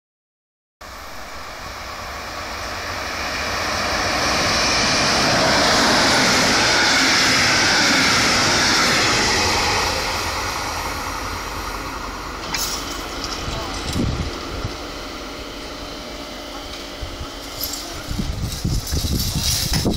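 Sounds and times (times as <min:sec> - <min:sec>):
passenger train passing: 0:00.8 - 0:19.9.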